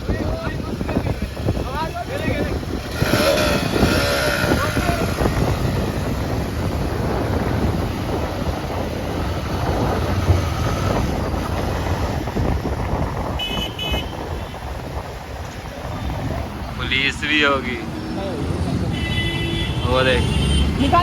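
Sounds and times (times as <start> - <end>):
wind buffeting microphone: 0.0 - 19.0
motorcycle engine and road noise: 0.0 - 21.0.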